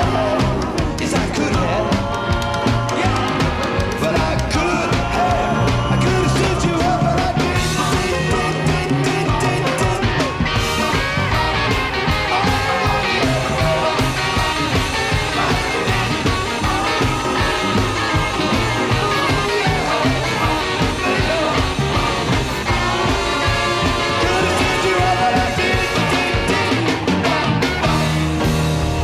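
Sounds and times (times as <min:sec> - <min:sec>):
rock music with singing: 0:00.0 - 0:29.0.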